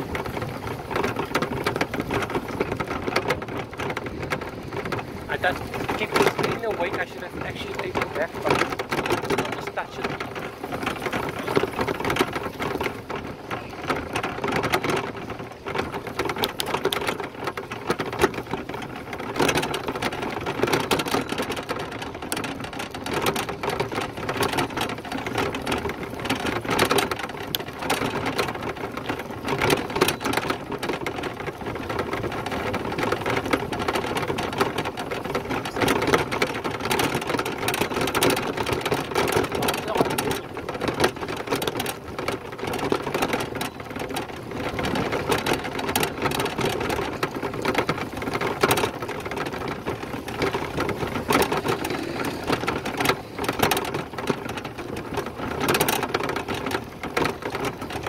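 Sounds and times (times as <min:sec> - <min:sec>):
bike rattling and clattering: 0:00.0 - 0:58.0.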